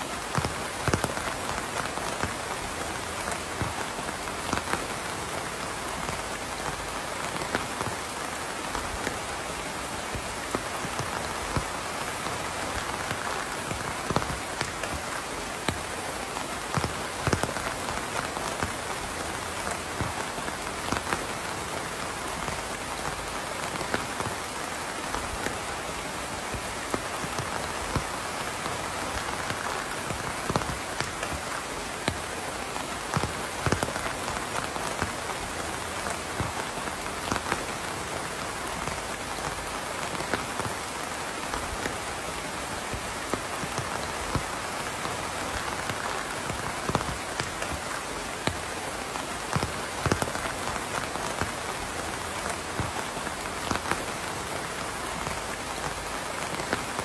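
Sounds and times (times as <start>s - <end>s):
rain hissing: 0.0s - 57.0s
raindrops ticking: 0.0s - 57.0s.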